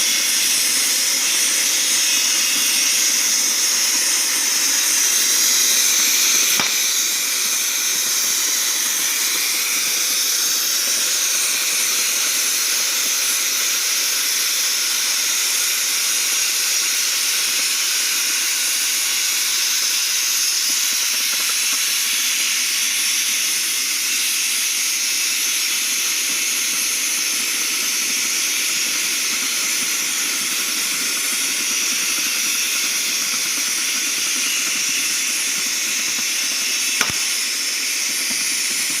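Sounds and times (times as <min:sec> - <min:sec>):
cutting torch hissing: 0:00.0 - 0:39.0.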